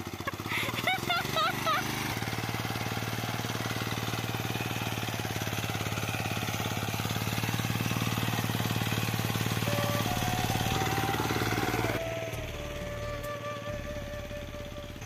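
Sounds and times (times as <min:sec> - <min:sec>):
small tiller engine chugging: 0:00.0 - 0:15.0
tines working soil: 0:00.0 - 0:15.0.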